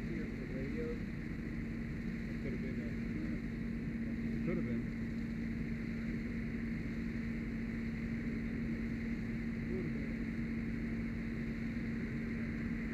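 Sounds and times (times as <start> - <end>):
fire engine droning hum: 0.0 - 12.9.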